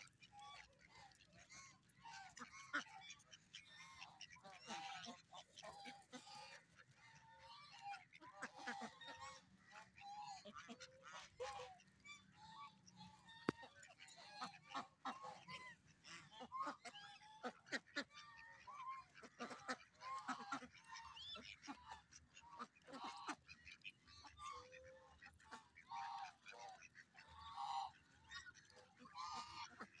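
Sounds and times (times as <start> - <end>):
ducks and geese quacking and honking: 0.0 - 30.0.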